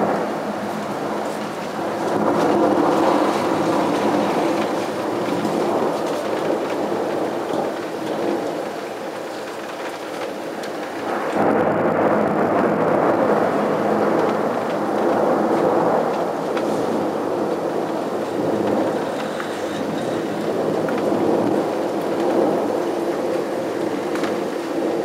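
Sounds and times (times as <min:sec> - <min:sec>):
rain falling: 0:00.0 - 0:25.0
thunder rumbling: 0:00.0 - 0:25.0.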